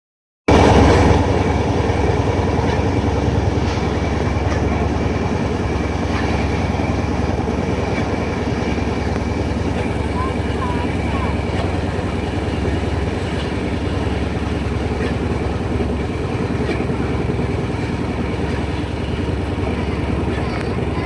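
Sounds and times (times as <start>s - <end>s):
train rumble: 0.5s - 21.0s.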